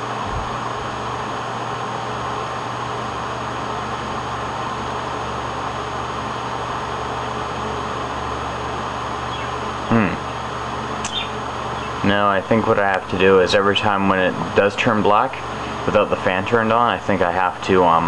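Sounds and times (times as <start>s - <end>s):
electric desk fan running: 0.0s - 18.0s.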